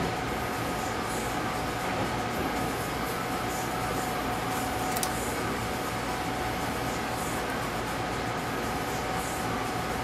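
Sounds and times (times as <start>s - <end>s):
machinery hum and hiss: 0.0s - 10.0s.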